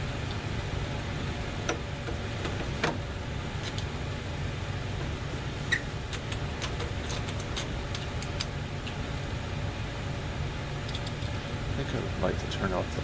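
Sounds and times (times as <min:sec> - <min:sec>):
furnace humming: 0:00.0 - 0:13.0.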